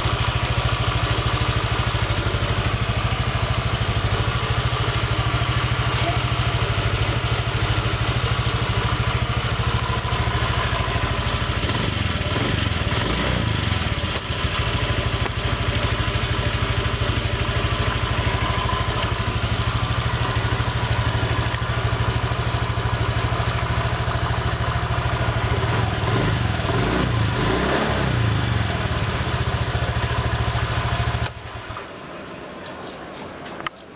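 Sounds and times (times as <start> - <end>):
scooter engine idling: 0.0 - 32.2.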